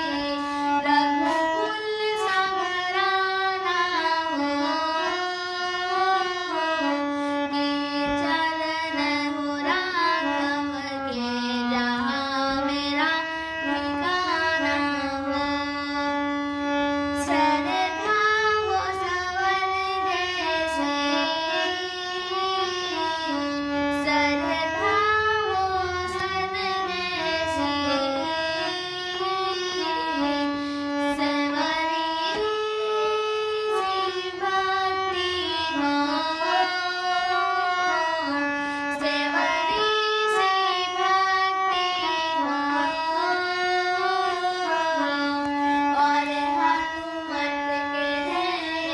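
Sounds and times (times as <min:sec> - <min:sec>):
devotional song melody: 0:00.0 - 0:48.9.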